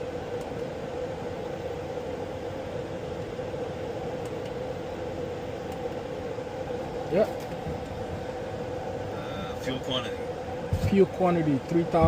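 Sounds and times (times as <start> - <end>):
aircraft auxiliary power unit drone: 0.0 - 12.0
constant whine: 0.0 - 12.0.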